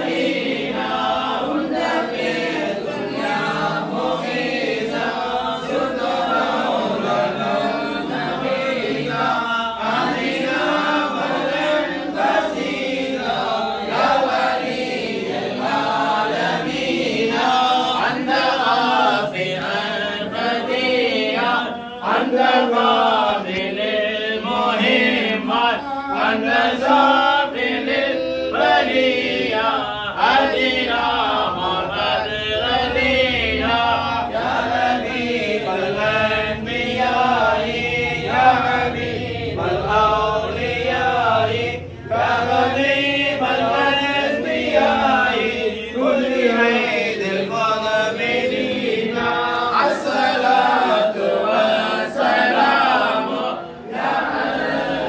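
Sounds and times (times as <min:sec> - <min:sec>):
group of voices chanting: 0:00.0 - 0:55.0.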